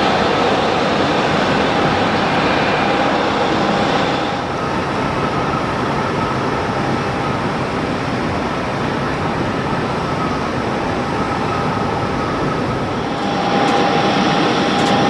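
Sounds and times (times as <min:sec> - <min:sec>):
faint engine whine: 0:00.0 - 0:15.0
jet engines roaring: 0:00.0 - 0:15.0.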